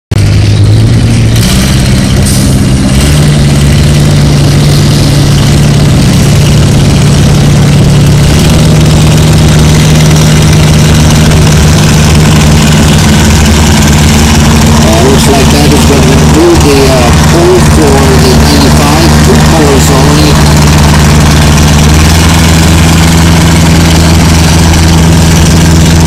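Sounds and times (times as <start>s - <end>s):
tractor engine revving: 0.1s - 26.0s.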